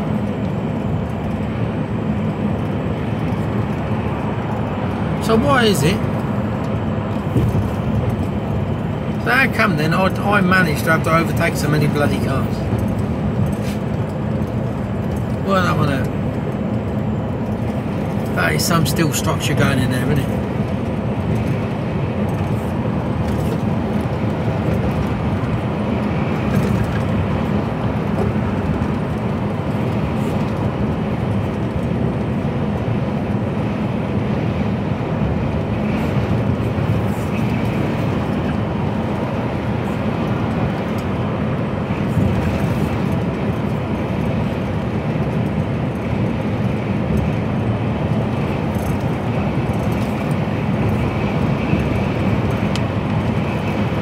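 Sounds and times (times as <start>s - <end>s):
lorry cab engine and road drone: 0.0s - 54.0s.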